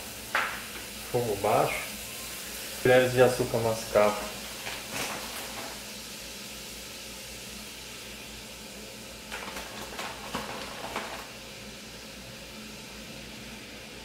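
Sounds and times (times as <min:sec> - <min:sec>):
syrup sizzling in a pan: 0:00.0 - 0:14.0.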